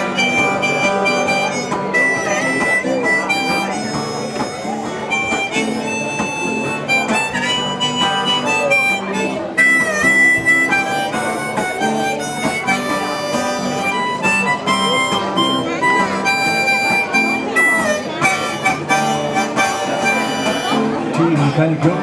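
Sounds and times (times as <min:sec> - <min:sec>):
guitar accompaniment: 0:00.0 - 0:22.0
harmonica melody: 0:00.0 - 0:22.0.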